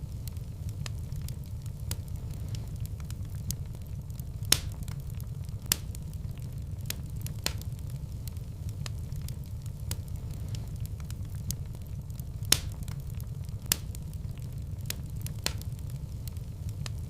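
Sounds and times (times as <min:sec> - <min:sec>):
fireplace fire crackling and popping: 0:00.0 - 0:17.0
low rumble of flame: 0:00.0 - 0:17.0.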